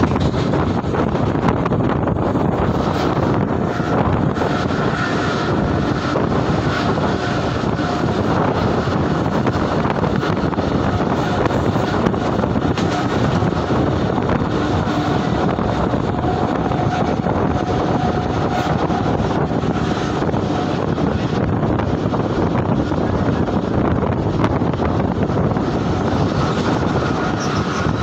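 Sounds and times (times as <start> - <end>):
train running noise: 0.0 - 28.0
wind rushing on microphone: 0.0 - 28.0.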